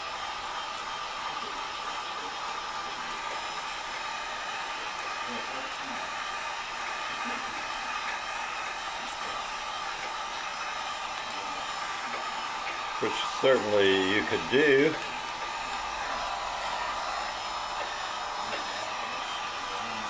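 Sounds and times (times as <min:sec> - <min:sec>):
heat gun blowing with whine: 0:00.0 - 0:20.0.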